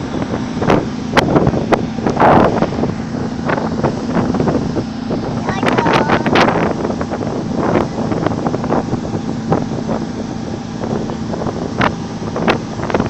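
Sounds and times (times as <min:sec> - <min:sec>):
ship engine hum: 0:00.0 - 0:13.0
wind buffeting microphone: 0:00.0 - 0:13.0.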